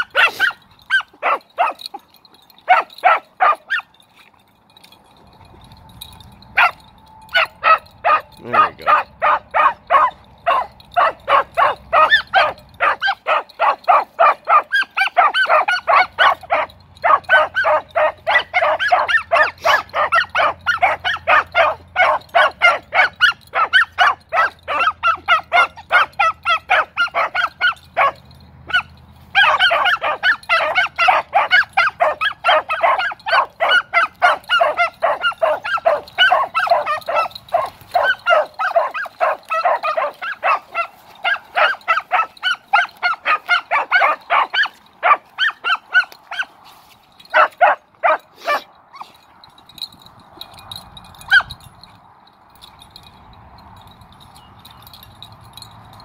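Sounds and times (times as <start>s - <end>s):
dogs barking fast: 0.0s - 4.0s, 6.0s - 46.6s, 47.2s - 49.2s, 50.4s - 51.8s.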